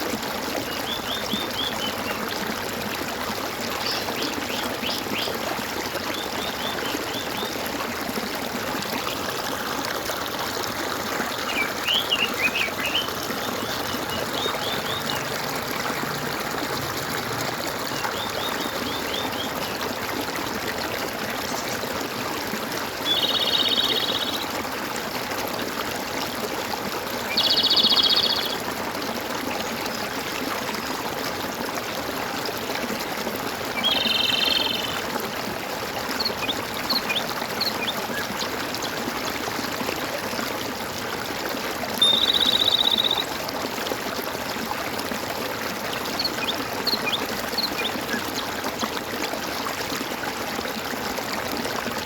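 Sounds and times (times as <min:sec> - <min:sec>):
stream babbling: 0:00.0 - 0:52.0.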